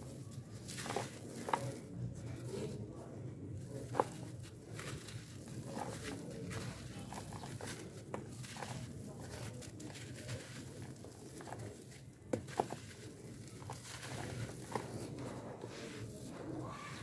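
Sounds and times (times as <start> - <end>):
charcoal crunching by hand: 0.0 - 2.9, 3.5 - 17.0.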